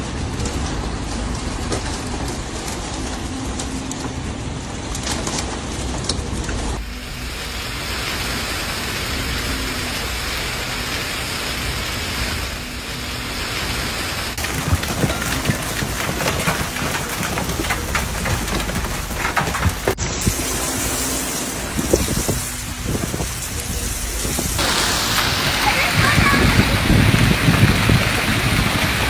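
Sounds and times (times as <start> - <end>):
hailstones striking: 0.0 - 29.0
heavy rain hissing: 5.6 - 29.0.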